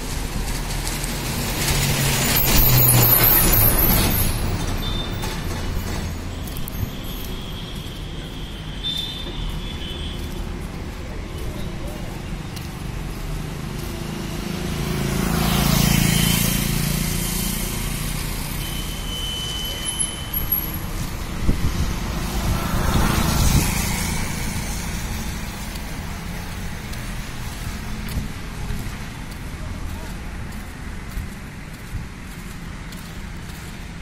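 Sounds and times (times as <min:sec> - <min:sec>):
road traffic rumble: 0:00.0 - 0:34.0
vehicles passing close by: 0:00.0 - 0:34.0.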